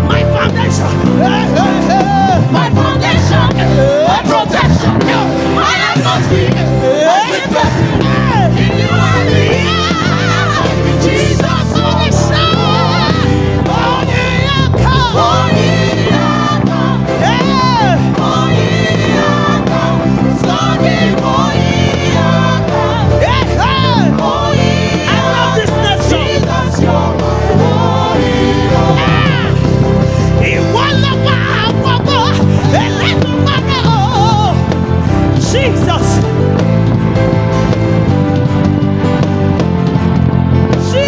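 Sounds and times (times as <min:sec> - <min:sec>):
voices singing: 0:00.0 - 0:36.8
live gospel band: 0:00.0 - 0:41.0.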